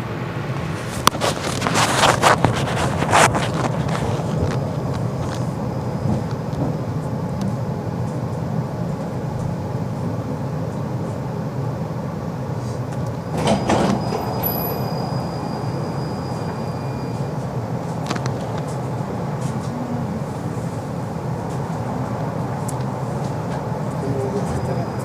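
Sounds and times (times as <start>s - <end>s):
tram rumbling: 0.0s - 25.0s.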